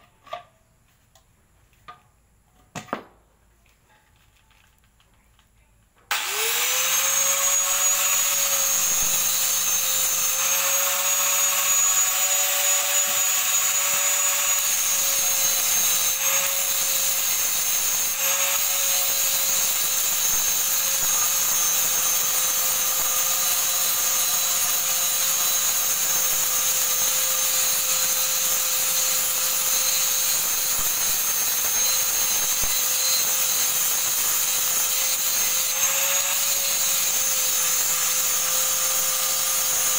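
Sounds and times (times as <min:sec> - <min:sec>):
angle grinder grinding steel: 0:06.1 - 0:39.9.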